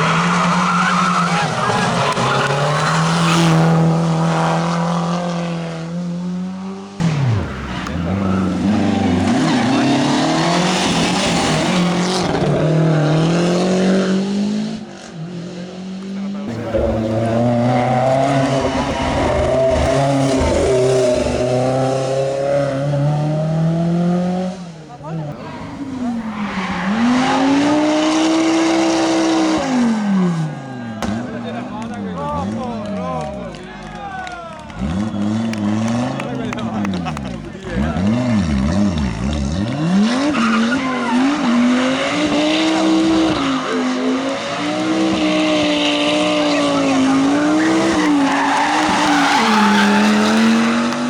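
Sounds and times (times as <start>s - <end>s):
tyres skidding and squealing: 0.0s - 6.0s, 7.0s - 14.5s, 16.4s - 51.0s
rally car engine revving: 0.0s - 51.0s.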